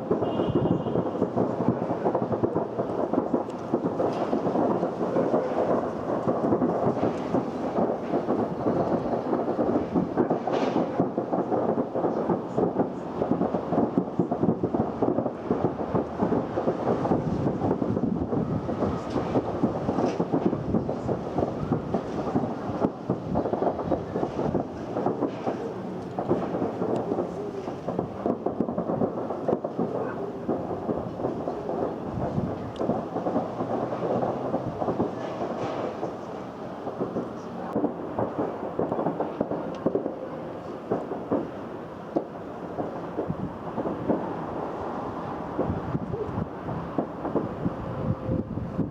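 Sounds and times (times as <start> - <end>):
explosion: 0.0 - 48.9
fireworks crackling: 0.0 - 48.9.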